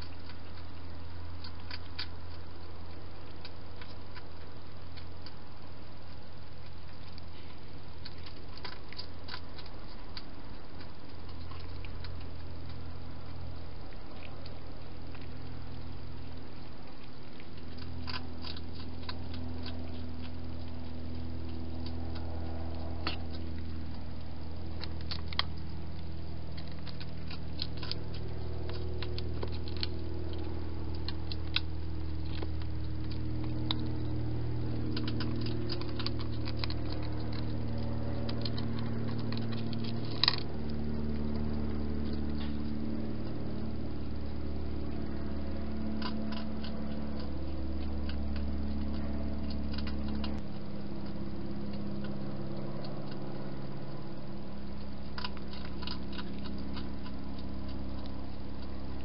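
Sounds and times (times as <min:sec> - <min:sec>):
cat crunching dry food: 0:00.0 - 0:59.0
steady low hum: 0:00.0 - 0:59.0.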